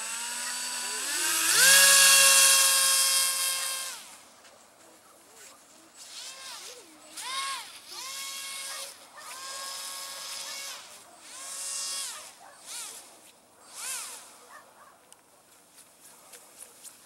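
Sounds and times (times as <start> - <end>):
electric motor and propeller whining: 0.0 - 4.4, 5.3 - 14.6.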